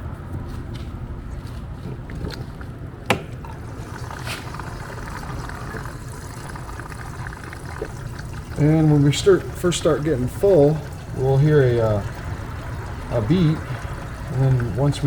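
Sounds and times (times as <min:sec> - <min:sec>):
fuel trickling into tank: 0:01.7 - 0:15.0.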